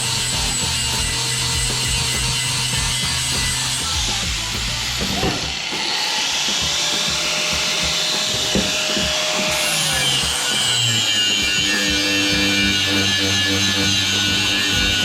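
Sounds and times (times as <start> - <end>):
background music: 0.0 - 15.0
power tool winding down: 0.0 - 15.0.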